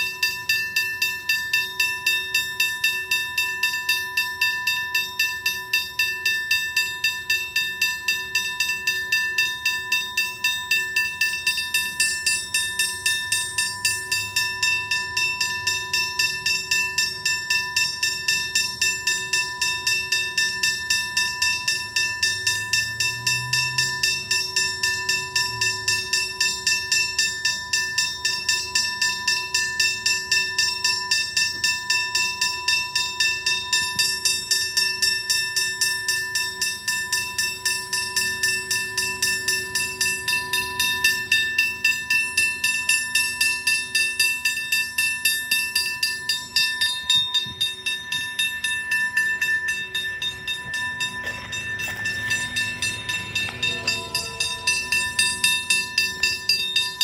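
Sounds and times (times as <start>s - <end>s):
level crossing bell ringing: 0.0s - 57.0s.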